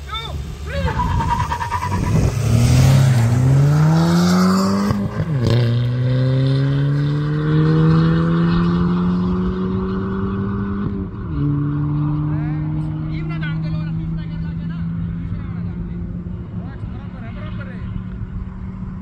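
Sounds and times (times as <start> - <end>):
car engine accelerating at full throttle: 0.4 - 19.0.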